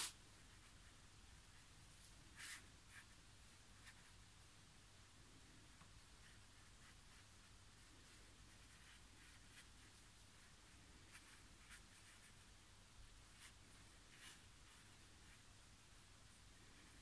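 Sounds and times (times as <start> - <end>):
paintbrush scratching on paper: 0.0 - 4.2, 6.0 - 15.6
low steady hum: 0.0 - 17.0.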